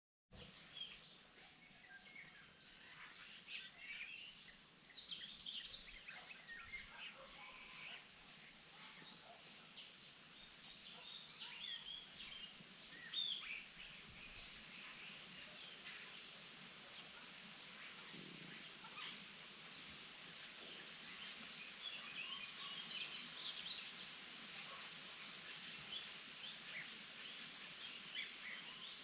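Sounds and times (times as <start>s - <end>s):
songbirds singing and calling: 0.4s - 29.0s.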